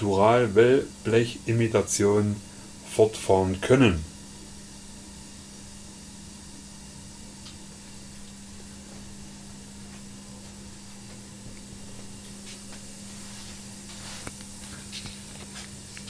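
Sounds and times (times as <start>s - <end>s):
room tone hum and hiss: 0.0s - 16.0s.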